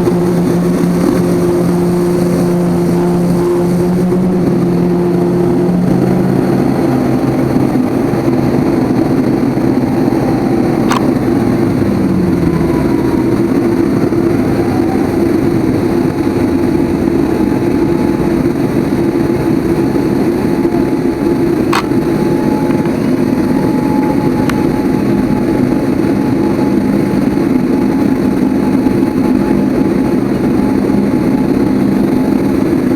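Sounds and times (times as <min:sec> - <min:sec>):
jet airliner engine droning: 0:00.0 - 0:32.9.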